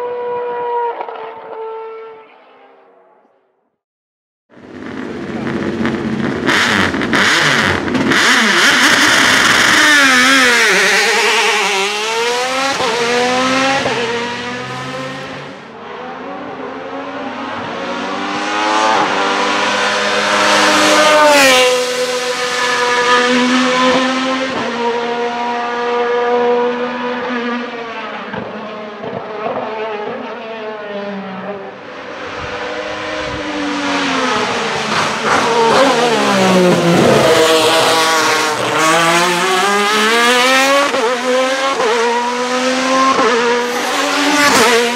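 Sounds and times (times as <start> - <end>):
race car engine revving: 4.6 - 44.9.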